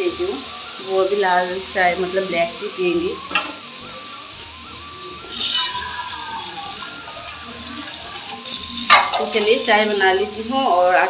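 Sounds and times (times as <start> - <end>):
soft background music: 0.0 - 11.0
water running from kitchen tap: 0.0 - 11.0.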